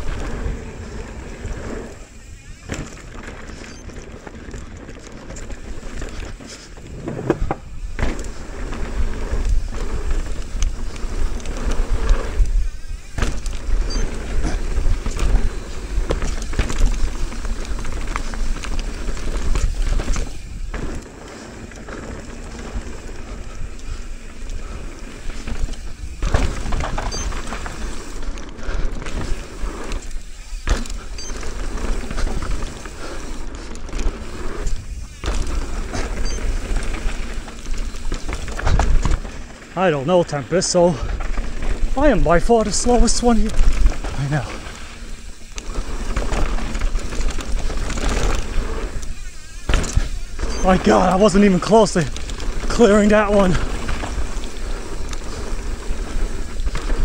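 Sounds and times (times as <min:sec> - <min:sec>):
bike rattling and knocking: 0:00.0 - 0:57.0
bike tyres crunching on dirt: 0:00.0 - 0:57.0.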